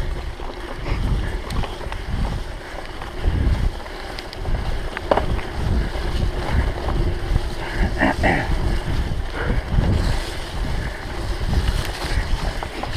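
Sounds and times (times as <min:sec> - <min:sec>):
bike rattling over rough trail: 0:00.0 - 0:12.9
wind buffeting microphone: 0:00.0 - 0:12.9.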